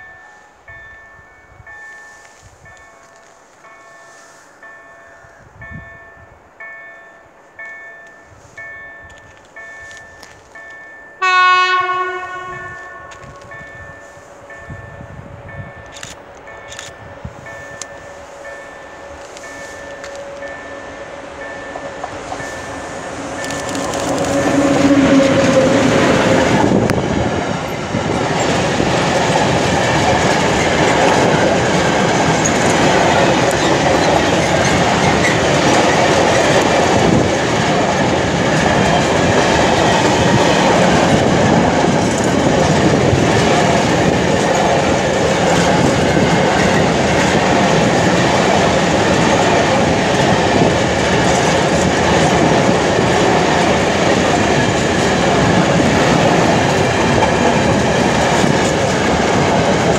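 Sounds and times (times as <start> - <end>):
train wheels rumbling on rails: 7.6 - 59.9.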